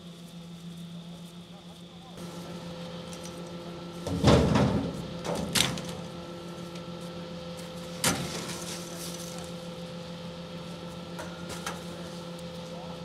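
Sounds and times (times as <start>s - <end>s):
garbage truck engine and hydraulics: 2.0s - 13.0s.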